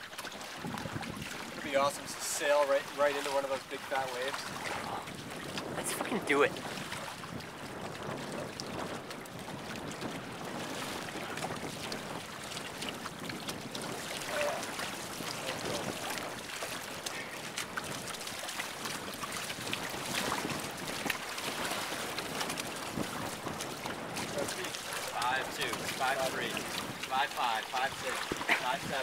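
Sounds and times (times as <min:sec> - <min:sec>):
wind noise on microphone: 0:00.0 - 0:03.1, 0:03.9 - 0:29.0
water splashing against hull: 0:00.0 - 0:29.0.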